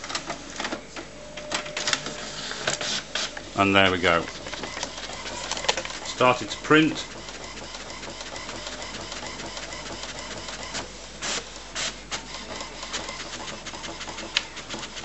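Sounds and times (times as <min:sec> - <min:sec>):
inkjet printer printing: 0:00.0 - 0:15.0.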